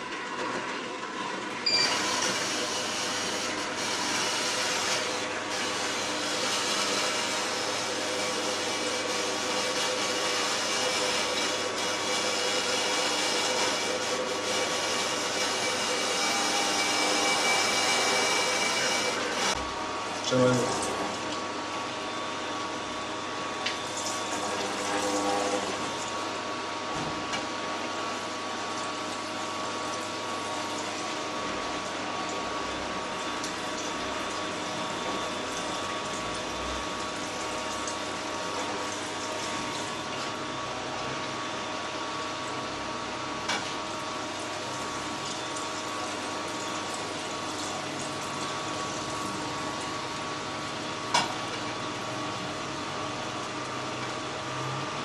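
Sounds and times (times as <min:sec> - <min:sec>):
juicer motor hum: 0:00.0 - 0:55.0.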